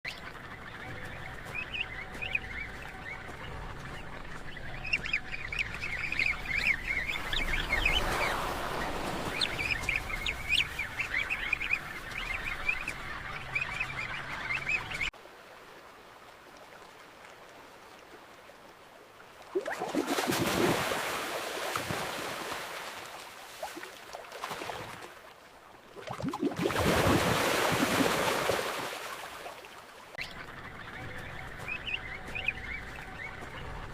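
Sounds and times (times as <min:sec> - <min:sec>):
rushing water: 0:00.1 - 0:30.2.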